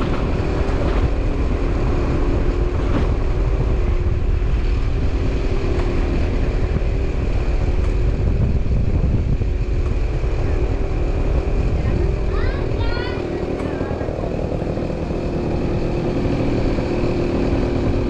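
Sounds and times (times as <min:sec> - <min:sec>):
motorbike engine rumbling: 0:00.0 - 0:18.0.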